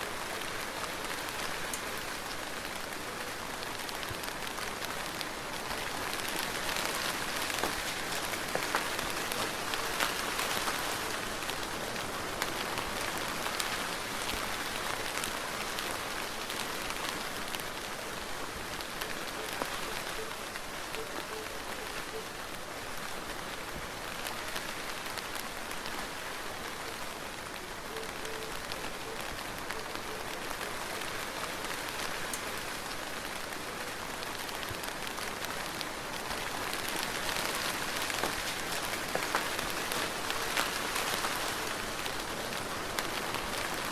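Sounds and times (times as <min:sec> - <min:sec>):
soft rain: 0:00.0 - 0:43.9.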